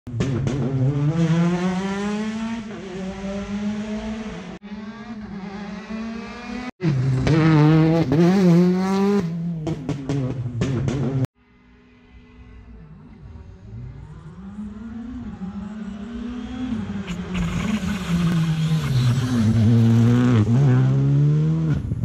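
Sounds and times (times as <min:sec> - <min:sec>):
rally car engine revving: 0:00.1 - 0:11.3, 0:13.5 - 0:22.0.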